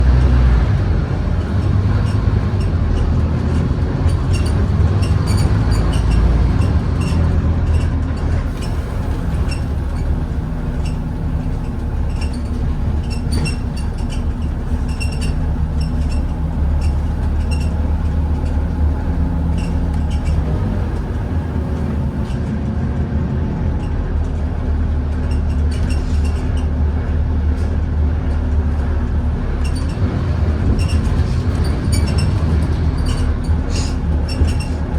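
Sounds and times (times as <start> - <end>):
bus diesel engine rumbling: 0.0 - 34.9.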